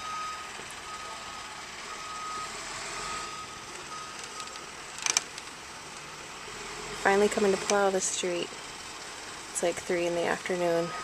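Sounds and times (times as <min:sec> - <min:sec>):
truck reversing alarm beeping: 0:00.0 - 0:05.0, 0:05.6 - 0:11.0
steady background noise: 0:00.0 - 0:11.0.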